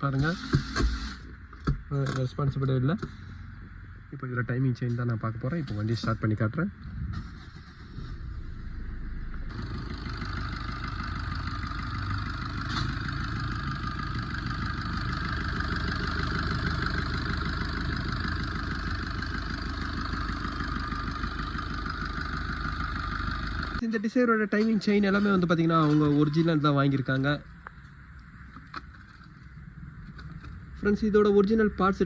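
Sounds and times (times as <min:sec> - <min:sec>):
car engine starting and idling: 0:00.0 - 0:23.8, 0:24.8 - 0:32.0.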